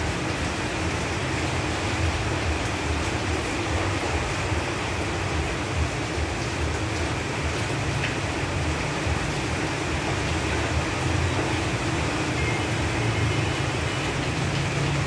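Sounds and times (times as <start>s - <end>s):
rain falling on leaves: 0.0s - 15.0s.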